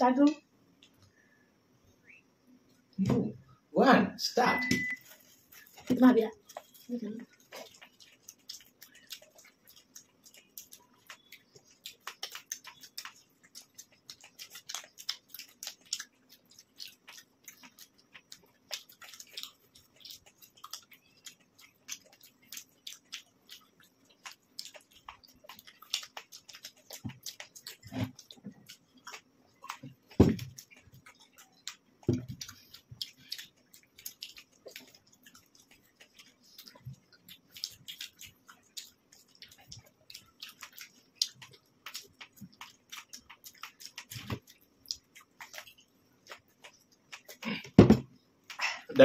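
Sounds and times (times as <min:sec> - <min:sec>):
people chewing food: 0:00.2 - 0:03.6, 0:04.4 - 0:49.0
wet mouth clicks and smacks: 0:07.4 - 0:47.8.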